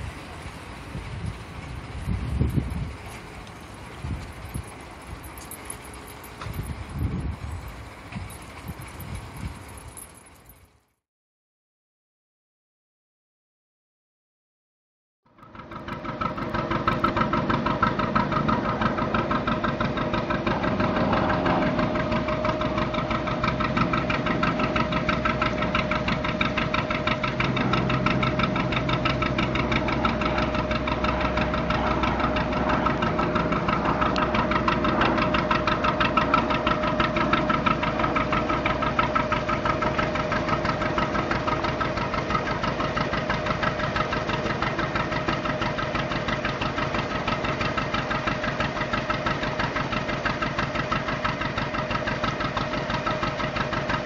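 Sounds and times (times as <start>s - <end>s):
diesel engine knocking: 0.0s - 10.6s, 15.4s - 54.0s.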